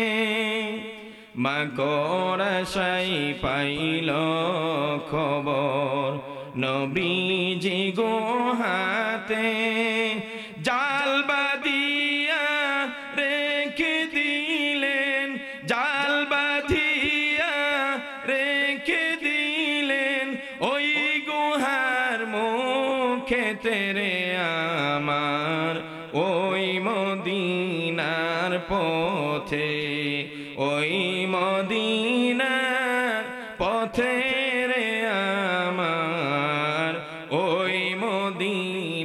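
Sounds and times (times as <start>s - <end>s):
man singing devotional song: 0.0s - 39.0s.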